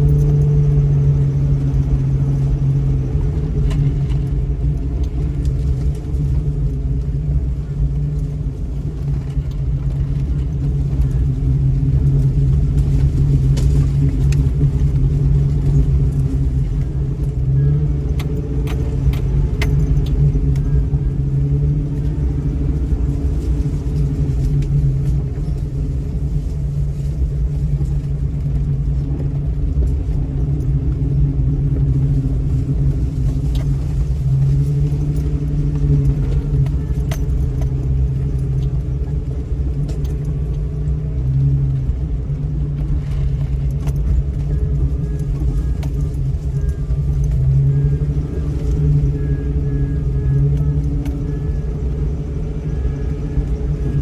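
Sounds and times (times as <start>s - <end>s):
car engine running low speed: 0.0s - 54.0s.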